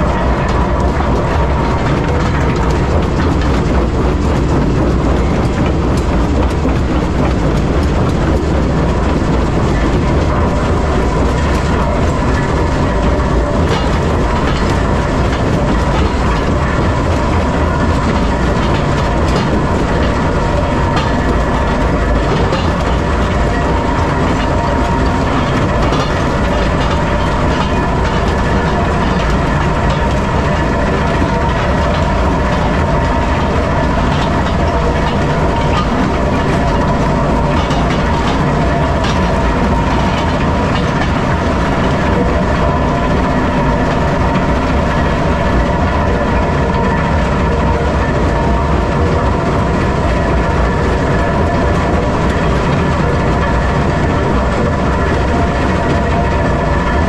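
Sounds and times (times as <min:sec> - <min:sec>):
constant high hum: 0:00.0 - 0:57.0
rock crusher rumbling: 0:00.0 - 0:57.0.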